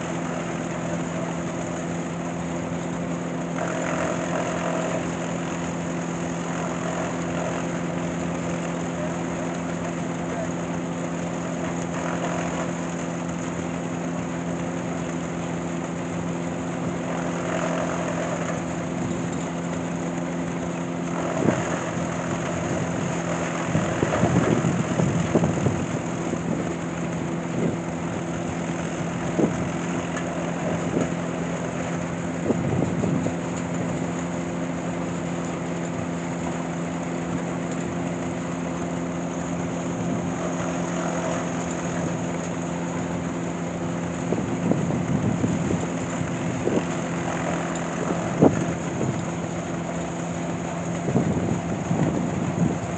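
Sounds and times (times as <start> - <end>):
engine running steadily: 0.0 - 52.9.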